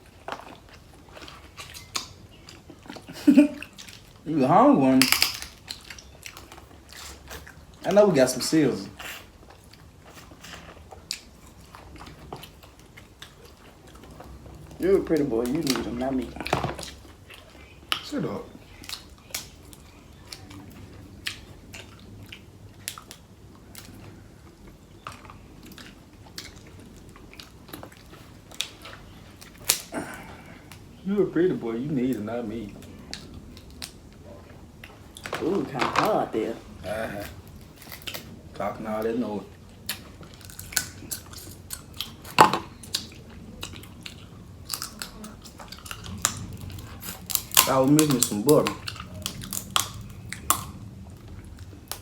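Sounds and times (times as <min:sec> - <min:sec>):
chewing seafood with crunches: 0:00.0 - 0:31.1, 0:32.0 - 0:52.0.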